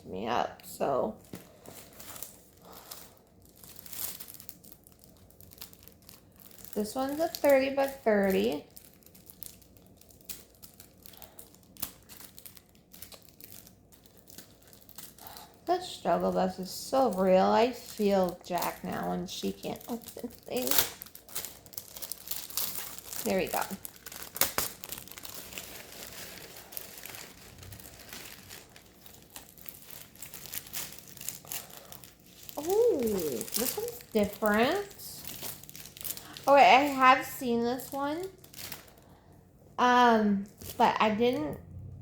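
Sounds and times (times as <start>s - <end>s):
plastic packaging crinkling: 0.6s - 41.6s.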